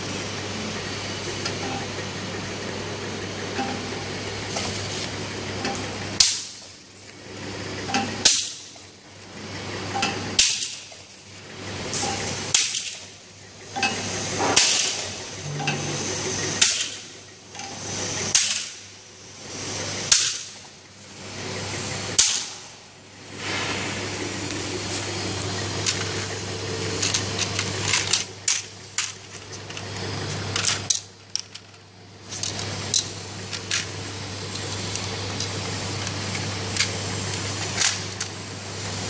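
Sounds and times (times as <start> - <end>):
machine motor hum: 0.0 - 39.0.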